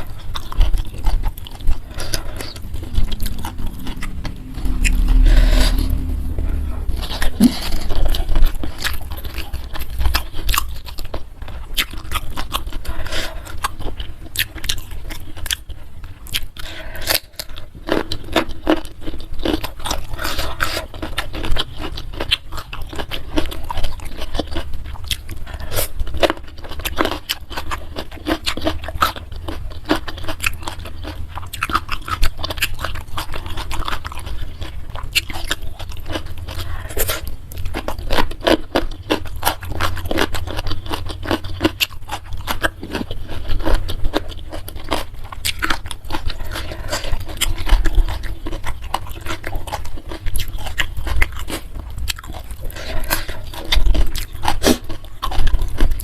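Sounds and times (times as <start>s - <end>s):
person chewing and crunching food: 0.0s - 56.0s
steady low hum: 0.0s - 56.0s.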